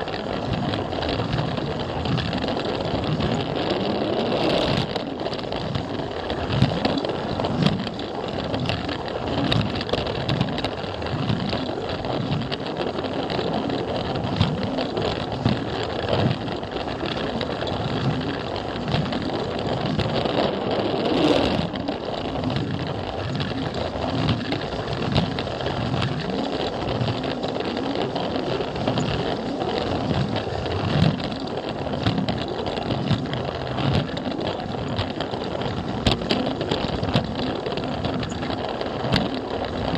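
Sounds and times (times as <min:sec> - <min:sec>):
plastic wheels clicking on track: 0:00.0 - 0:39.9.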